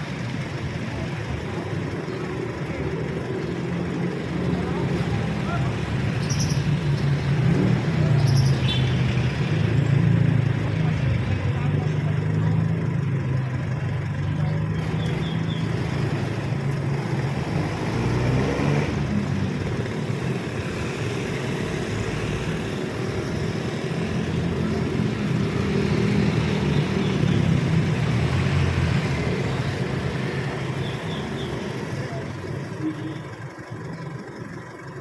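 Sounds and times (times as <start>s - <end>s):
vehicle engine humming: 0.0s - 35.0s.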